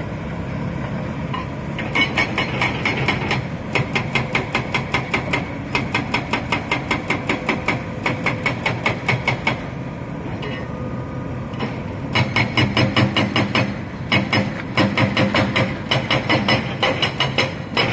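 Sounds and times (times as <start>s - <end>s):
diesel machinery running: 0.0s - 17.9s.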